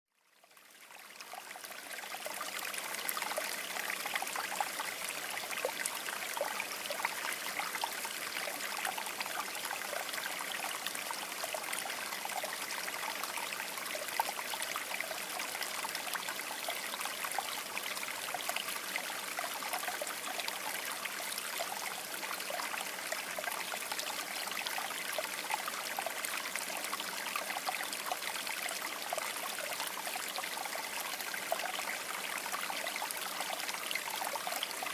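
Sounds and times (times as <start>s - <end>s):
river water flowing: 0.4s - 34.9s.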